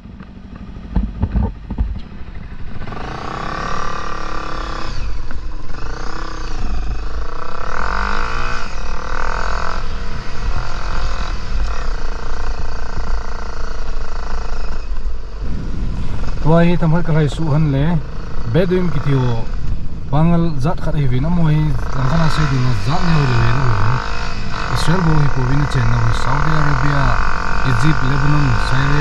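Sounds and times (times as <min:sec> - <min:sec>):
wind rumble and bumps: 0:00.0 - 0:03.2, 0:04.8 - 0:18.7, 0:19.4 - 0:29.0
dirt bike engine revving: 0:00.0 - 0:29.0.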